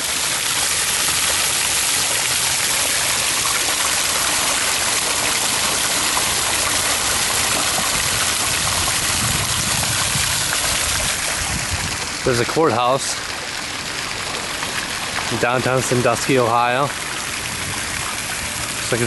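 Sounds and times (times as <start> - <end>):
fountain water splashing into pool: 0.0 - 19.0.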